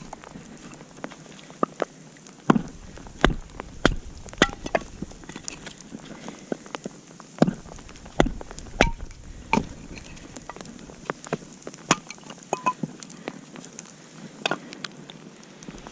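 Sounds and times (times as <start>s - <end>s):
sharp pops of fire: 0.0s - 13.9s
campfire crackling: 0.0s - 15.9s.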